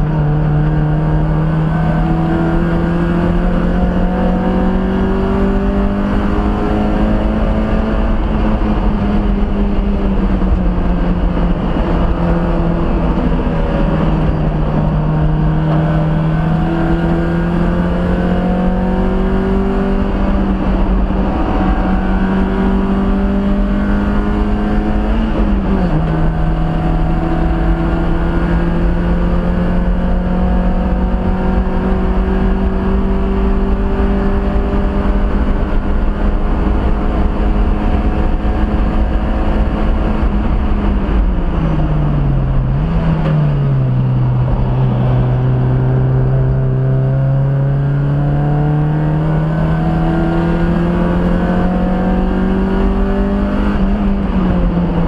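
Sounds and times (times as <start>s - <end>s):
race car engine under load: 0.0s - 55.0s.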